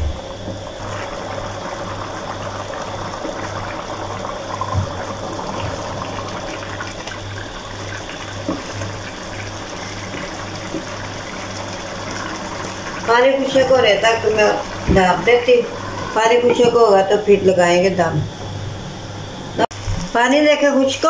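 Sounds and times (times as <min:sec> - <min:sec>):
rice bubbling in a pot: 0:00.0 - 0:17.5.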